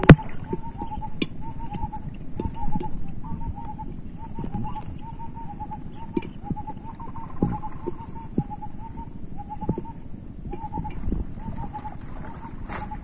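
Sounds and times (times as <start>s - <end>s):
bird calling: 0.0s - 13.0s
water sloshing and splashing: 0.0s - 13.0s.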